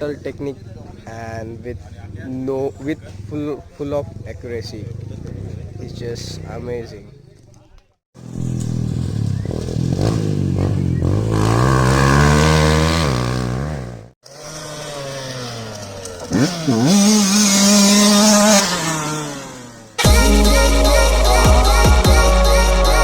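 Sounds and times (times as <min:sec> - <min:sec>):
dirt bike engine revving: 0:00.0 - 0:07.6, 0:08.2 - 0:23.0.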